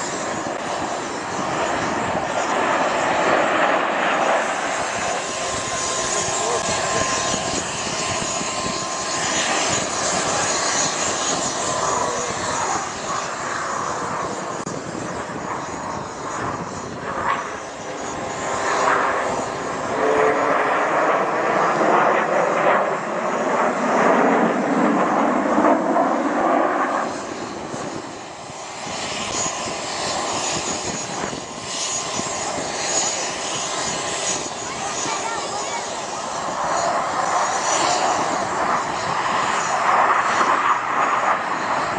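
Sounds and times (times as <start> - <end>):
jet engines roaring overhead: 0.0 - 41.9.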